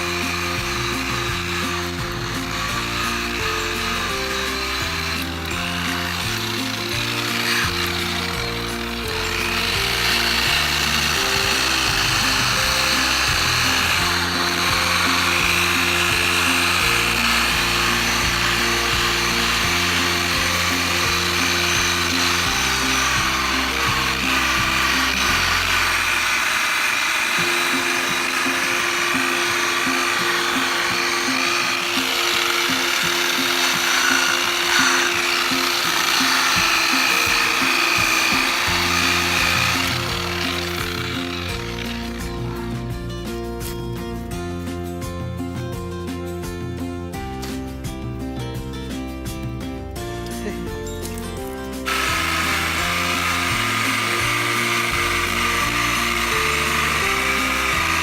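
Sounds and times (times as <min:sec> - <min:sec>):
background music with bass line: 0:00.0 - 0:26.4, 0:27.4 - 0:58.0
power tool running: 0:00.0 - 0:43.7, 0:51.1 - 0:58.0.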